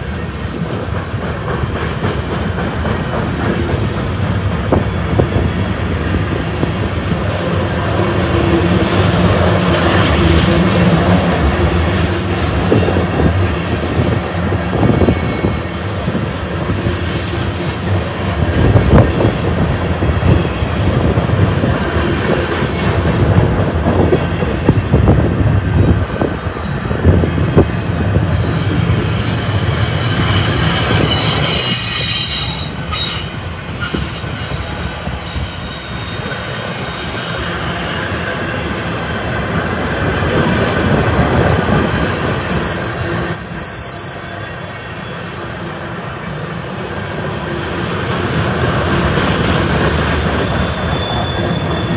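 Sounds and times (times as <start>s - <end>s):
train wheel squeal: 0.0s - 48.0s, 48.9s - 51.9s
freight train cars rumbling and clacking: 0.0s - 51.9s.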